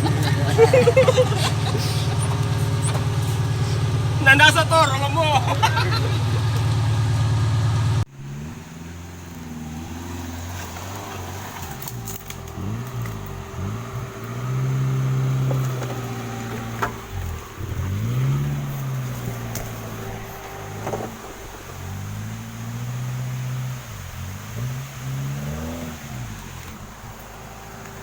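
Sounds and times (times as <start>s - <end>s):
loud engine: 0.0s - 28.0s
off-road engine revving: 0.0s - 28.0s.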